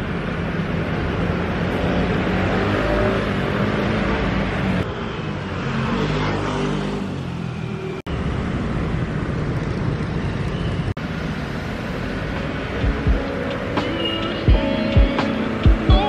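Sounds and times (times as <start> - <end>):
cars passing: 0.0 - 16.0
vehicle engine humming: 0.0 - 16.0.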